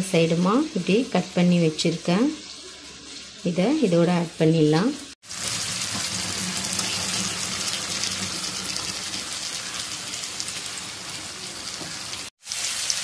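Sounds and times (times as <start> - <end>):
masala sizzling in a pan: 0.0 - 13.0.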